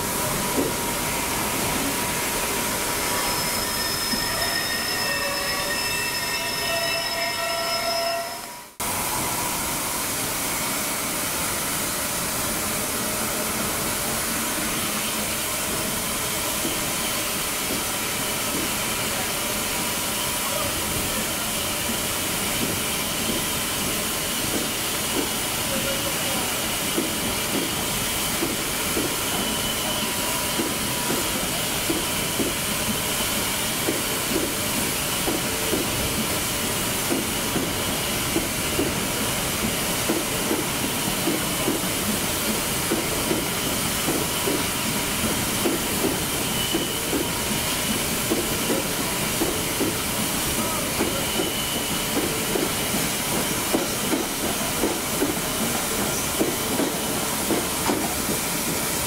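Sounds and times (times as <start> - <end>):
steam locomotive hissing: 0.0 - 59.0.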